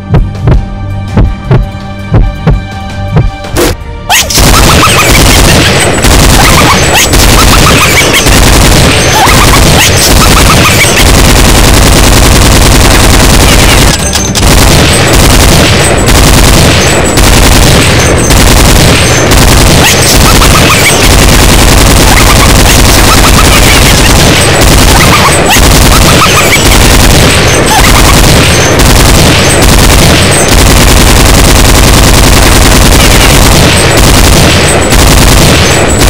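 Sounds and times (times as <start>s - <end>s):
music: 0.0s - 30.6s
rapid machine-gun fire: 4.3s - 36.0s.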